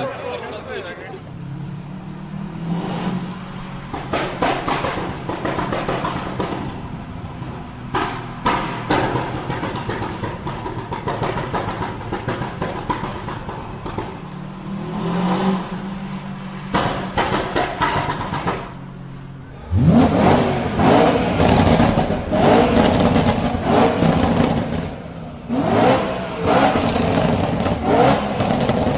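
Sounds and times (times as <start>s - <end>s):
car engine revving: 1.2s - 28.9s
exhaust popping and crackling: 3.3s - 28.9s.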